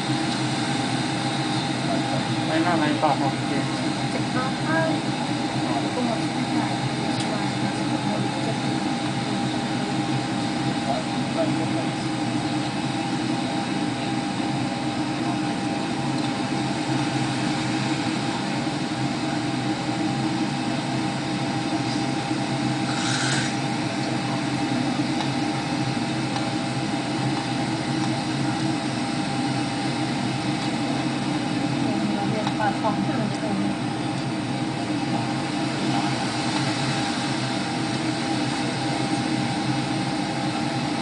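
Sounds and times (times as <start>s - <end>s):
jet engine and airflow rumble: 0.0s - 41.0s.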